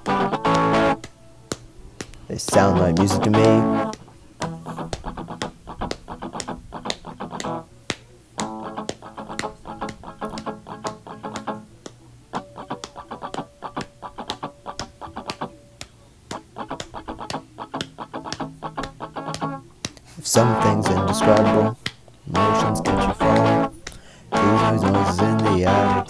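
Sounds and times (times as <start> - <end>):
electric guitar strummed chords: 0.0 - 1.6, 2.2 - 7.7, 8.4 - 26.0.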